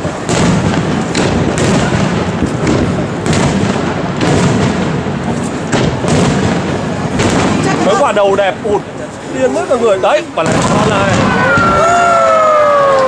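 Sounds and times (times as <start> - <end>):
fireworks rumble and crackle: 0.0 - 13.0
sharp fireworks bangs: 0.0 - 13.0.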